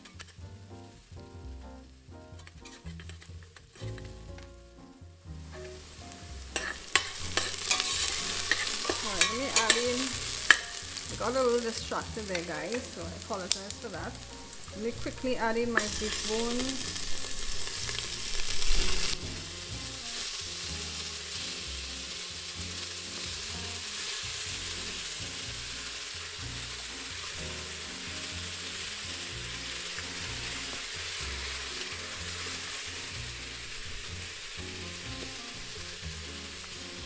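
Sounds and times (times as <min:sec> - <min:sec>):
bones sizzling in hot oil: 0:05.5 - 0:37.0.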